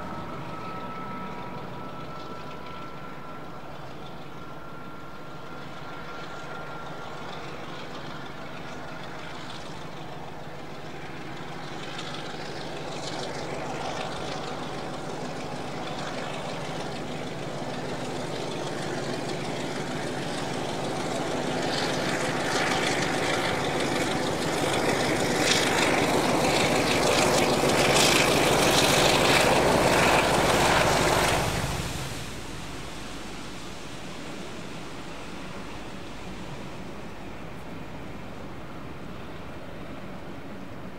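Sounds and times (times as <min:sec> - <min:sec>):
train passing at speed: 0:00.0 - 0:40.9.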